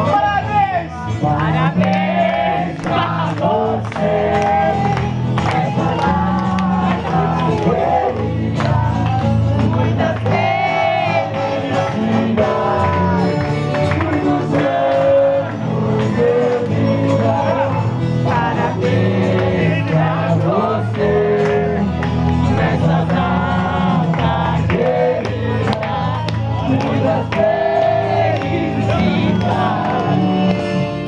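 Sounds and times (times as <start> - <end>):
live music accompaniment: 0.0 - 31.0
person singing: 1.2 - 31.0.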